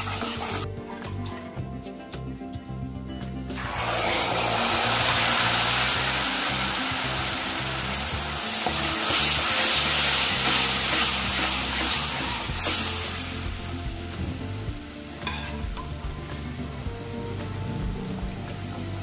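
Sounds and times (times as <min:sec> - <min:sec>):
lentils sizzling in hot oil: 0:00.0 - 0:00.7, 0:03.6 - 0:19.0.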